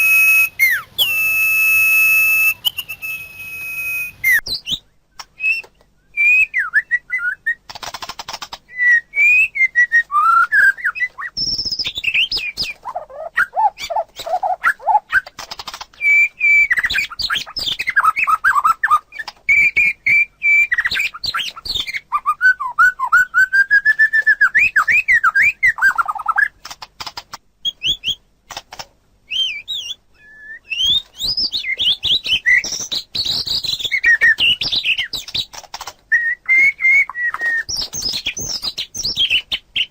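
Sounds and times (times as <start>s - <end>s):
songbirds singing: 2.2s - 39.9s.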